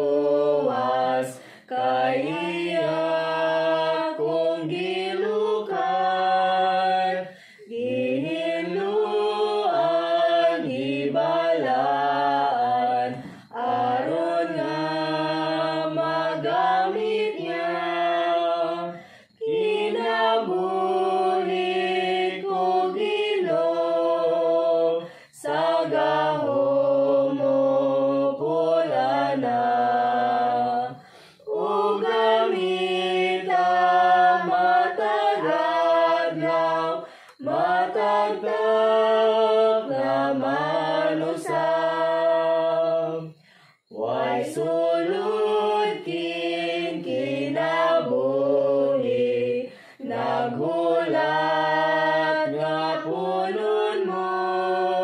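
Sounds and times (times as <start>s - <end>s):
woman and children singing a hymn: 0.0s - 55.0s.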